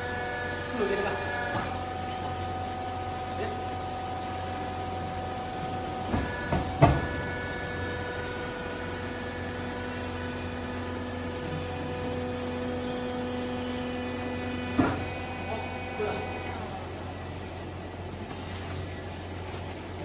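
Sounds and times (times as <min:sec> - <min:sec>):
whining tones: 0:00.0 - 0:19.4
hydraulic power unit humming: 0:00.0 - 0:20.0.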